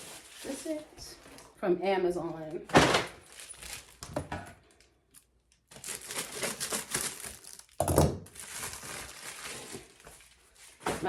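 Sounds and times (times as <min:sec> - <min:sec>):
packaging crinkling and rustling: 0:00.0 - 0:01.5, 0:02.7 - 0:11.0.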